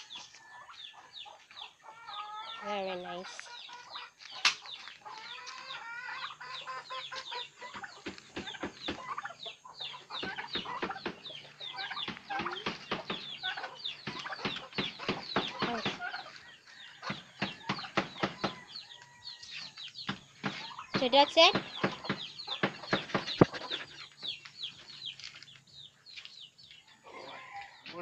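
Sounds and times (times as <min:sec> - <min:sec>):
chickens chirping: 0:00.0 - 0:28.0.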